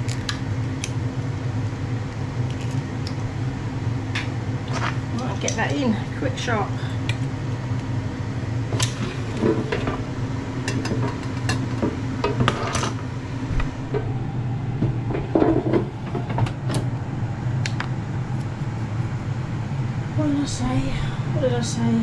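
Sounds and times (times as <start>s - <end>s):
air fryer fan hum: 0.0s - 22.0s.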